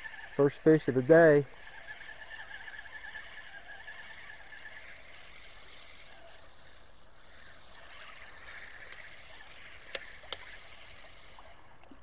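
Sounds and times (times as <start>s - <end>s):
fishing reel gears whirring: 0.0s - 12.0s
reel sharp clicks: 0.0s - 12.0s.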